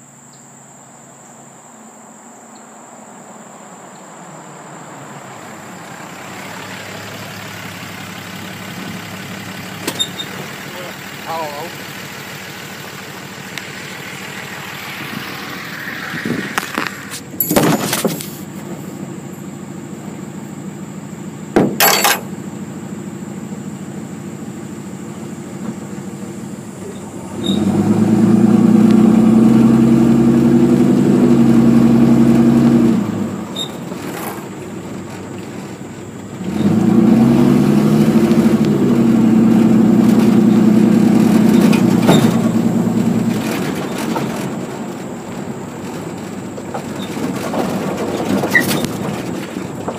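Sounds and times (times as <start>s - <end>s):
engine drone: 2.1s - 49.9s.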